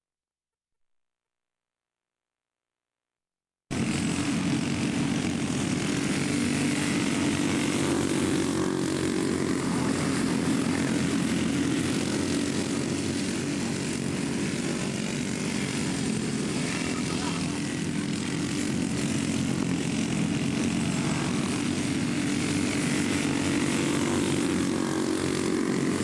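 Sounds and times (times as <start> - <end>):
kart engines racing: 3.7 - 26.0.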